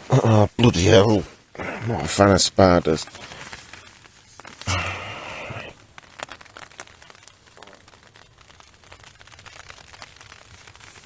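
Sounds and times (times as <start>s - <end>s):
light ticks and crackles: 0.0s - 11.0s.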